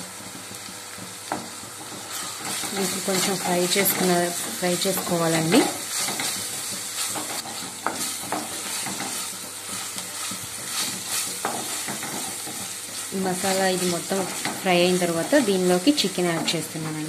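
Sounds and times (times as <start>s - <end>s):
onions sizzling in hot oil: 0.0s - 17.0s
spatula scraping a pan: 1.6s - 16.6s.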